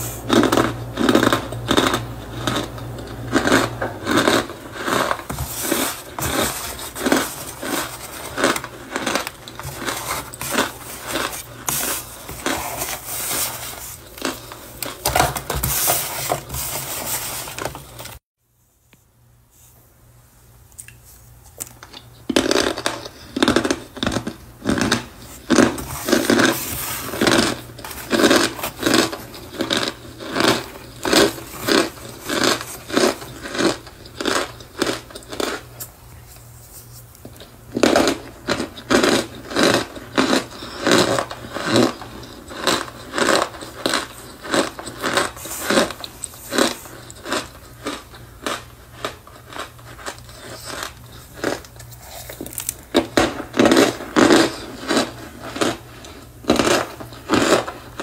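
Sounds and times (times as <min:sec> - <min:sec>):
cornstarch squeaky crunches: 0:00.0 - 0:18.2, 0:21.5 - 0:58.0.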